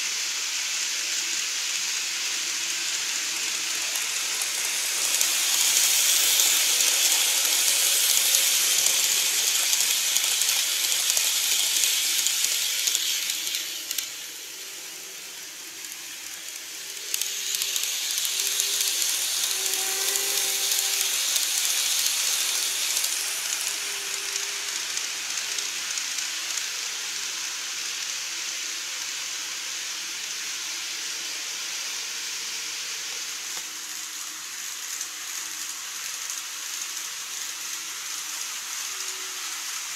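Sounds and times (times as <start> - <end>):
model train wheels hissing: 0.0 - 39.9.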